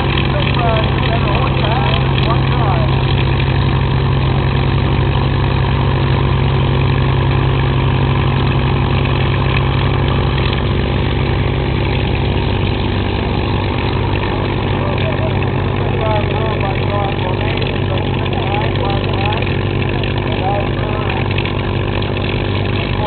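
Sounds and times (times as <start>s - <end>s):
aircraft piston engine idling: 0.0s - 23.0s.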